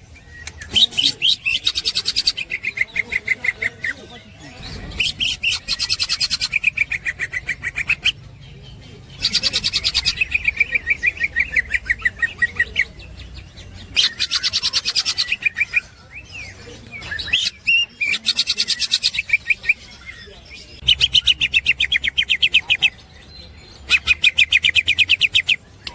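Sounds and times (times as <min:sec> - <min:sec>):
bird sharp chattering song: 0:00.0 - 0:25.9.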